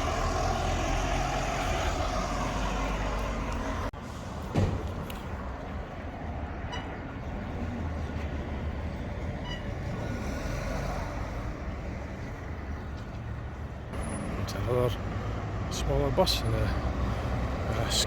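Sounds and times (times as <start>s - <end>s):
diesel bus engine rumble: 0.0s - 18.0s
traffic noise: 0.0s - 18.0s.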